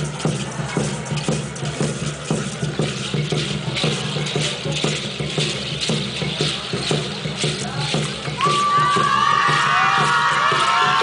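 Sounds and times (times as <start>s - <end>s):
rattles shaking: 0.0s - 11.0s
steady drumbeat: 0.0s - 11.0s.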